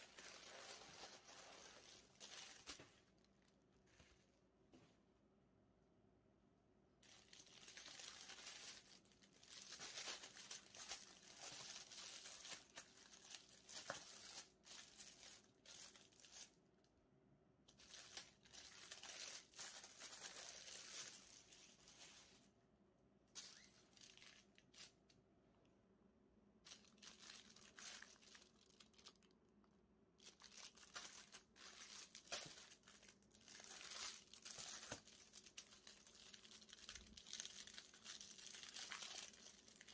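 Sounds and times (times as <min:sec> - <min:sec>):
plastic shrink-wrap crinkling: 0:00.0 - 0:03.6, 0:07.0 - 0:16.6, 0:17.7 - 0:22.5, 0:23.4 - 0:25.1, 0:26.6 - 0:29.4, 0:30.2 - 0:39.9.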